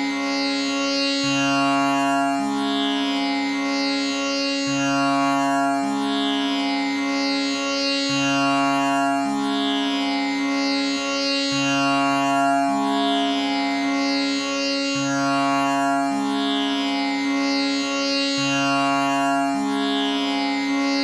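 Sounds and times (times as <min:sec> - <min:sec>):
tanpura drone: 0:00.0 - 0:21.0.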